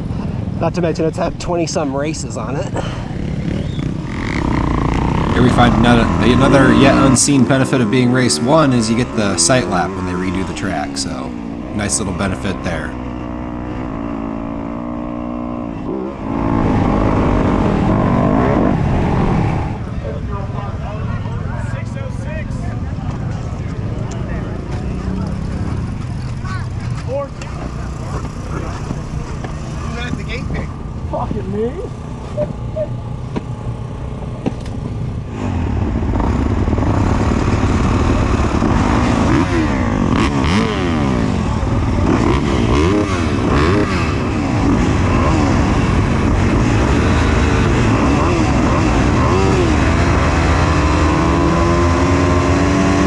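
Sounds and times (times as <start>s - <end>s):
motocross engine revving: 3.0s - 19.9s, 24.5s - 53.0s.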